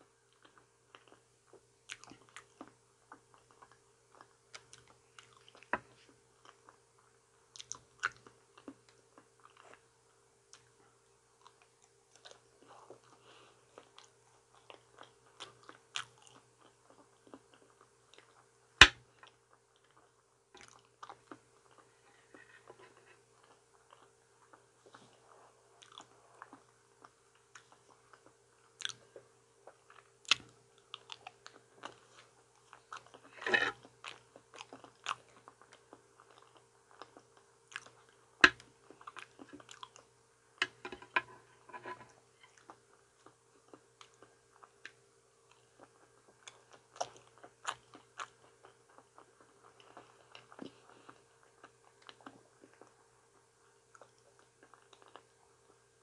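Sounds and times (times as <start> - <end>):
faint hum: 0.0 - 56.0
chewing banana mouth sounds: 0.3 - 9.8, 11.4 - 25.2, 25.8 - 41.4, 42.0 - 56.0.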